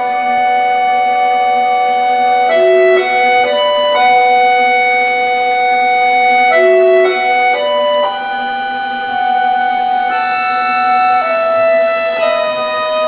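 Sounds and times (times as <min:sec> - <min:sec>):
accordion chords: 0:00.0 - 0:13.0.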